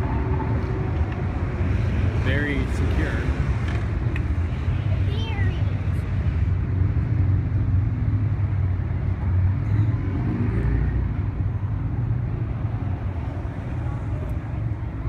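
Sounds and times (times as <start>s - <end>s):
engines and tyres rumbling: 0.0s - 15.0s.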